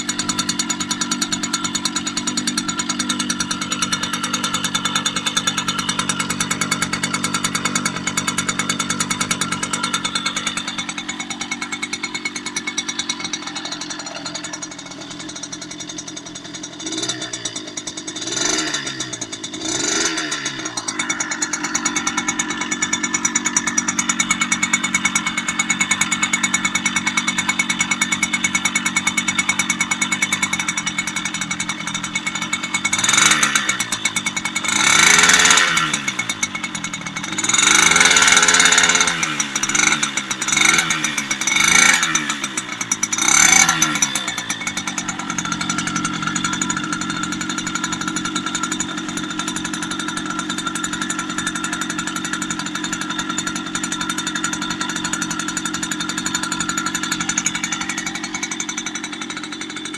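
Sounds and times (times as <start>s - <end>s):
engine revving: 0.0s - 59.9s
two-stroke engine idling: 0.0s - 59.9s.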